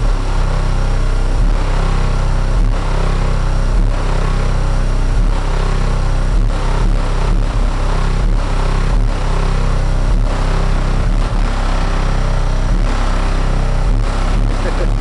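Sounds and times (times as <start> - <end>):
loud deep car audio bass: 0.0 - 15.0.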